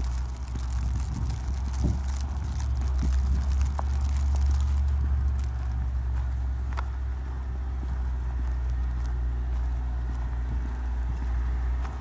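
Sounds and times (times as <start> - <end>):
footsteps in snow: 0.0 - 12.0
wind buffeting microphone: 0.0 - 12.0.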